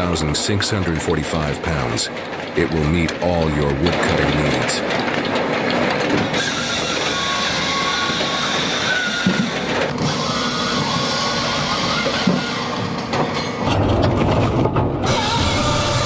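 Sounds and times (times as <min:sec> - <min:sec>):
firewood processor running: 0:00.0 - 0:16.0.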